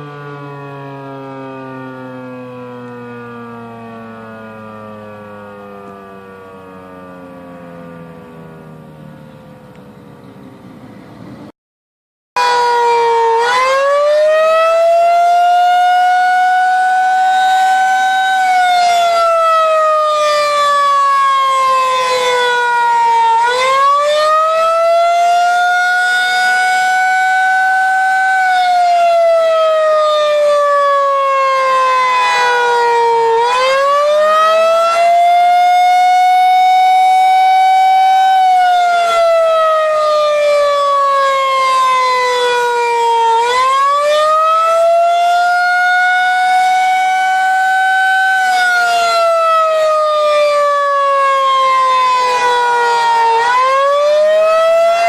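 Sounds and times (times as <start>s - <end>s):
tornado siren wailing: 0.0s - 10.6s, 12.4s - 55.0s.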